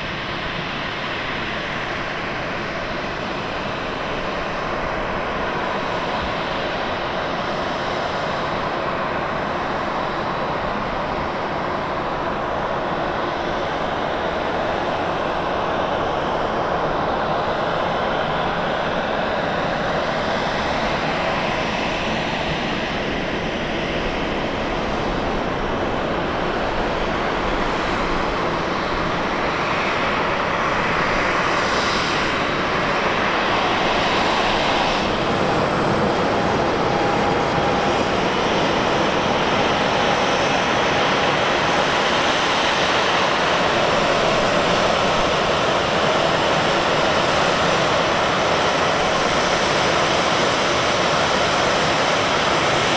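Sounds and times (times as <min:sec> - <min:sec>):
jet engines taxiing: 0:00.0 - 0:52.9.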